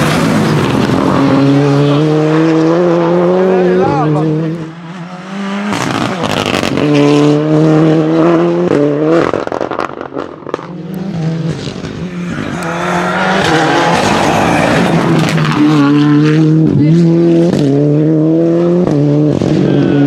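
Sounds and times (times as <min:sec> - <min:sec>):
rally car engine at high revs: 0:00.0 - 0:20.0
tyre and road noise: 0:00.0 - 0:20.0.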